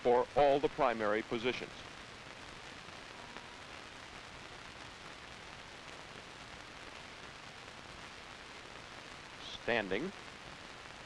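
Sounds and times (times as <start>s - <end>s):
film soundtrack hiss and crackle: 0.0s - 11.0s.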